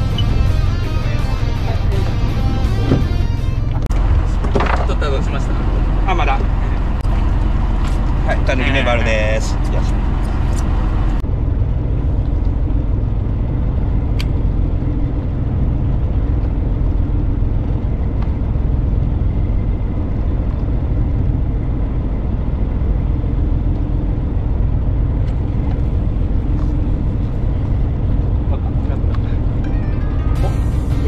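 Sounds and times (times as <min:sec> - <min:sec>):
boat engine droning: 0:00.0 - 0:31.0.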